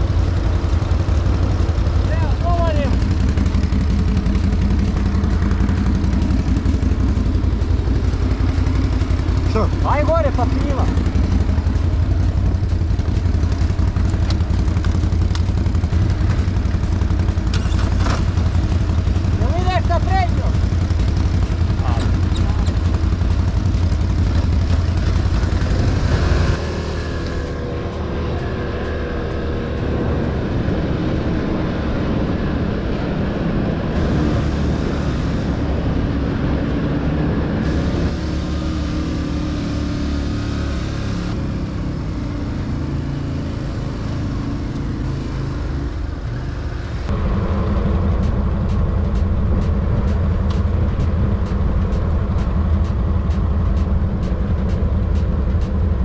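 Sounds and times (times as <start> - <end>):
atv engines under load: 0.0 - 56.0.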